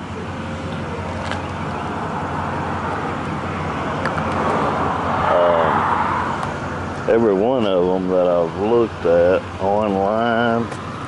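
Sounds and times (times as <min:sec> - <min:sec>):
passing traffic: 0:00.0 - 0:11.0.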